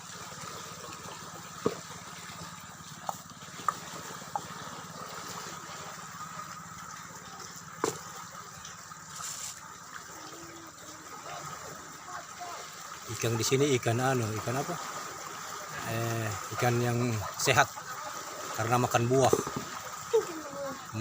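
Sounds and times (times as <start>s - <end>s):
water washing: 0.0s - 21.0s.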